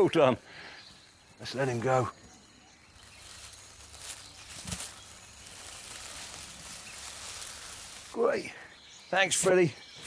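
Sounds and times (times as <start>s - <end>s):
insects hissing: 0.0s - 10.0s.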